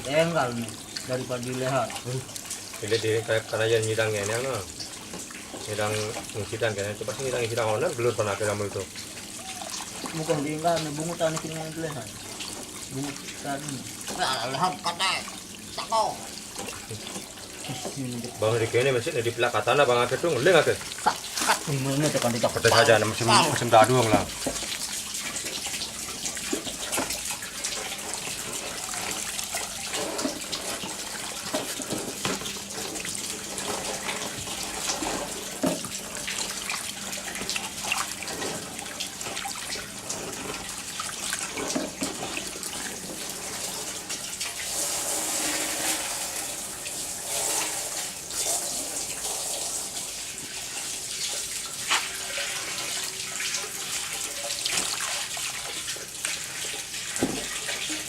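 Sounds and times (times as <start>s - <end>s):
water running and splashing: 0.0s - 58.0s.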